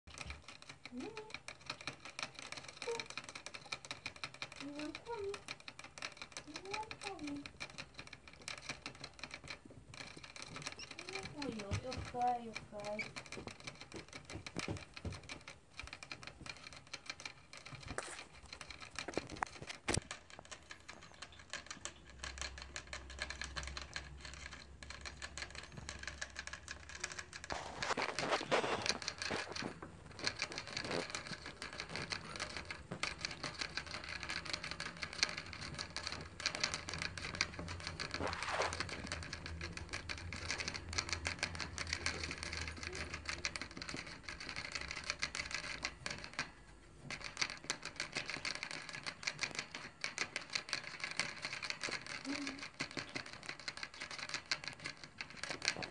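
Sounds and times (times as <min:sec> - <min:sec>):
rats licking water bottle spout: 0:00.1 - 0:55.9.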